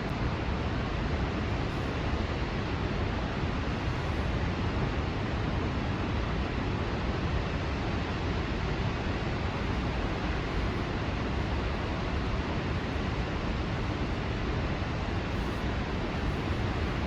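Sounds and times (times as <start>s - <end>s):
waterfall roaring: 0.1s - 17.0s.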